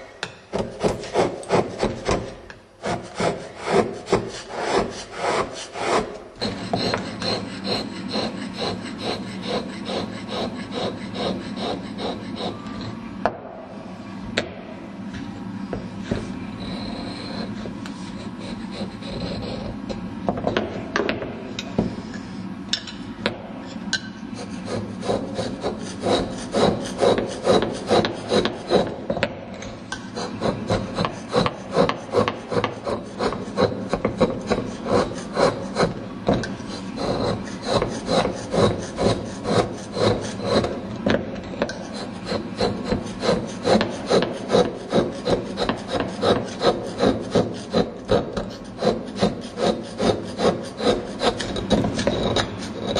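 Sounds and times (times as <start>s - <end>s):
chisel scraping slate: 0.5s - 12.9s, 16.1s - 20.6s, 24.0s - 29.2s, 29.9s - 52.9s.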